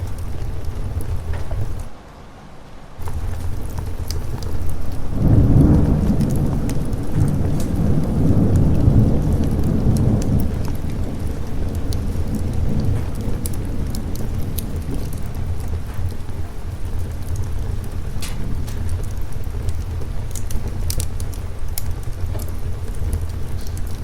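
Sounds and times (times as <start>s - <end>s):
thunder rolling: 0.0s - 1.9s, 3.0s - 24.0s
steady rain: 0.0s - 24.0s.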